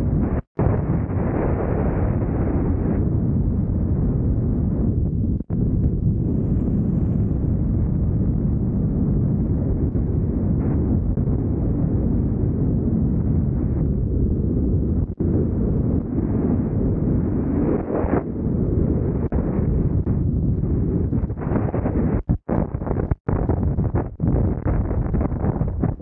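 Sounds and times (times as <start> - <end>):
wind roar on microphone: 0.0 - 26.0.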